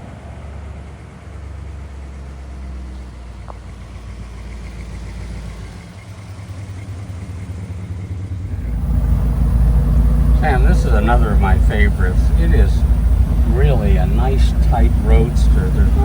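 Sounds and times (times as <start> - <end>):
car engine and road hum: 1.3 - 16.0.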